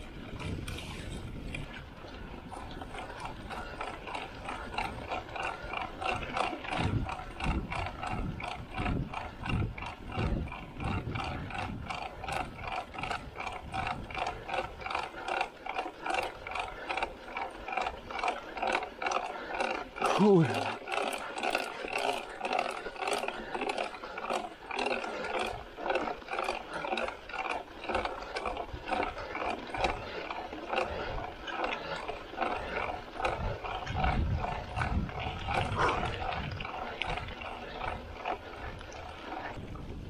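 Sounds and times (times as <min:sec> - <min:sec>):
bike rattling: 0:00.0 - 0:40.0
hard rhythmic breathing: 0:00.0 - 0:40.0.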